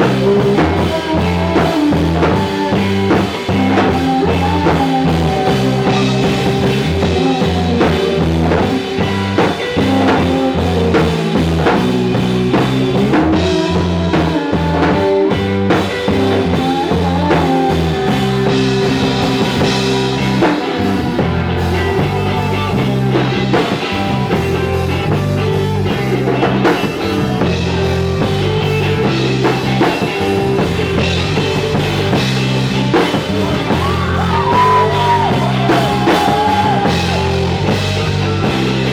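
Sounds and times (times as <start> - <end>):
drum kit beat: 0.0 - 38.9
rock band playing live: 0.0 - 38.9.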